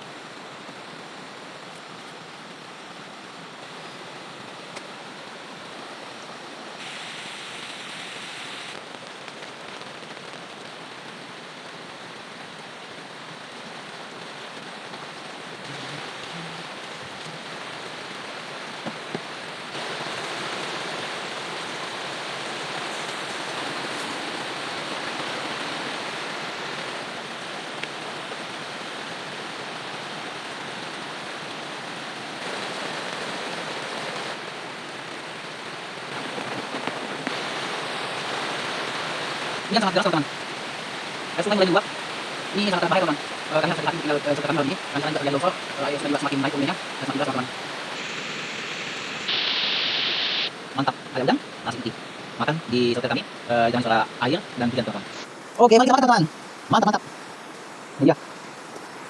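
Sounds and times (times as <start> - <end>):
heavy rain: 0.0 - 59.0
river rushing: 0.0 - 59.0.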